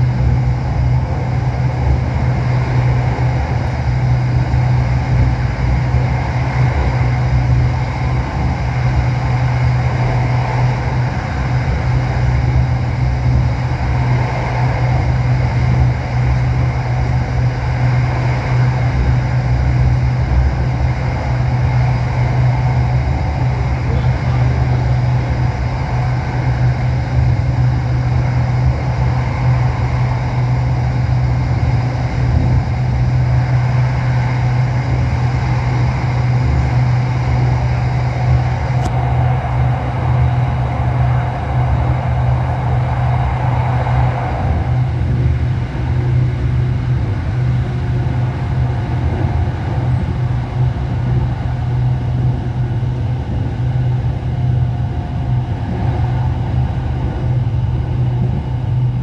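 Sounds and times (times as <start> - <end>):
train car low rumble: 0.0 - 59.0.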